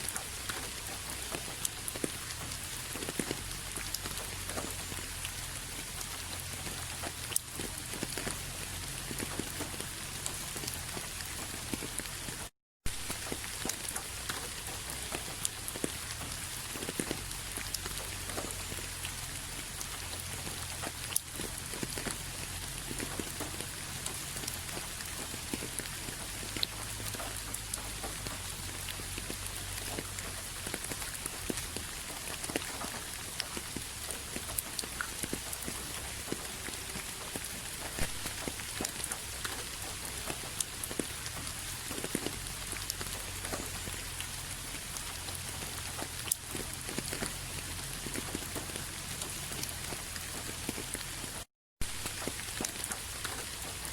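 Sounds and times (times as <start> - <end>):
raindrops pattering on a surface: 0.0 - 53.9
steady rain hissing: 0.0 - 53.9.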